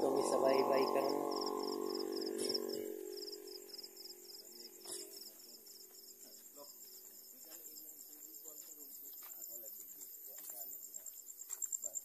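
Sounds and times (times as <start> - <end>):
crickets pulsing chirp: 0.0 - 12.0
steady high insect trill: 0.0 - 12.0.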